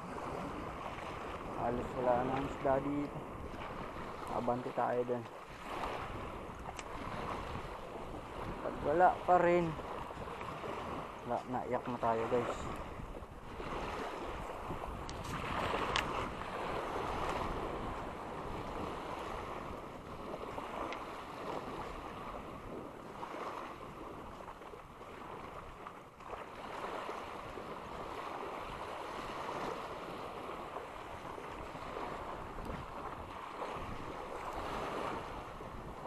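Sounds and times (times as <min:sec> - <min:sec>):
small waves lapping on sand: 0:00.0 - 0:36.0
wind rumbling on microphone: 0:00.0 - 0:36.0.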